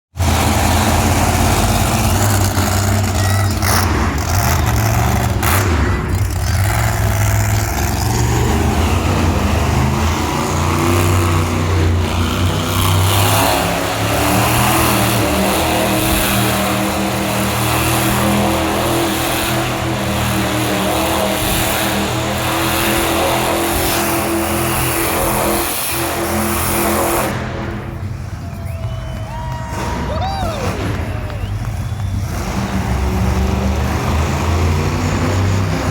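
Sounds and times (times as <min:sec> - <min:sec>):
monster truck engine revving: 0:00.1 - 0:35.9.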